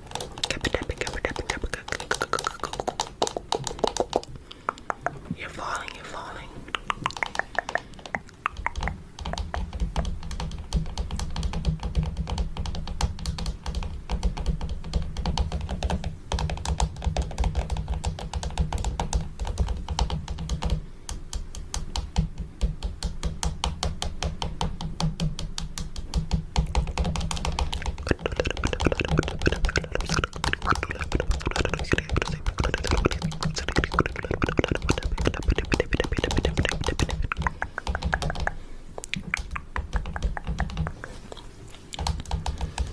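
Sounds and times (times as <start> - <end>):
fingernails tapping on camera: 0.1 - 5.2, 6.7 - 42.9.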